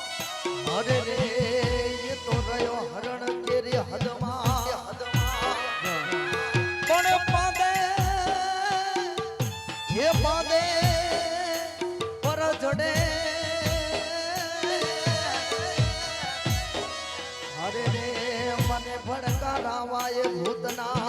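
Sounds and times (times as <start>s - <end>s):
drum beat: 0.0s - 21.0s.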